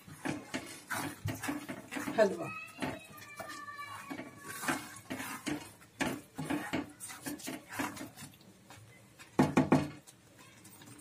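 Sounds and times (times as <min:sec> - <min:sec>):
wooden spatula scraping pan: 0:00.0 - 0:10.0
wood clattering on pan: 0:00.0 - 0:10.2.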